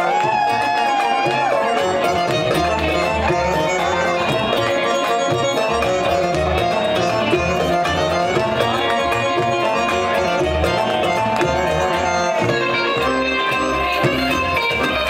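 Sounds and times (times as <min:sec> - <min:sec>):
bass: 0:00.0 - 0:15.0
drums: 0:00.0 - 0:15.0
plucked string instrument melody: 0:00.0 - 0:15.0.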